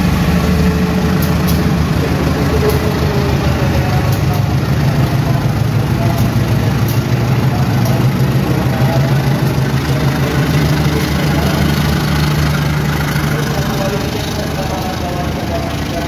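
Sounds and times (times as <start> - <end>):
locomotive engine droning: 0.0 - 16.0.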